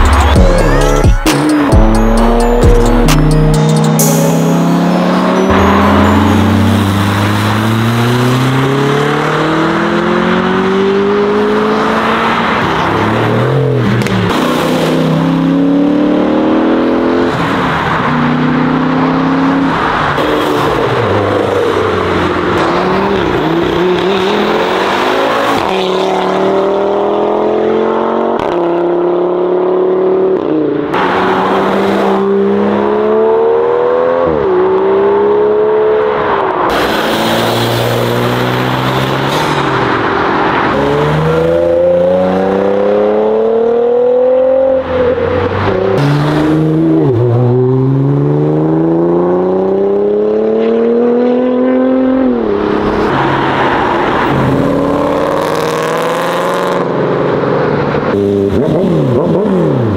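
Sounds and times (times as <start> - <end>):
cars accelerating hard: 0.0 - 59.9.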